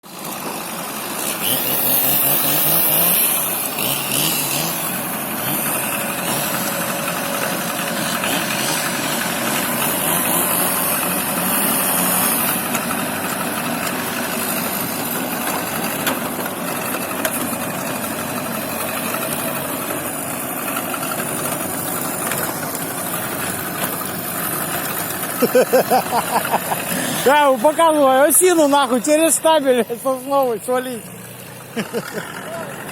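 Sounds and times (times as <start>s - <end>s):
engine running with wavering pitch: 0.0s - 32.9s.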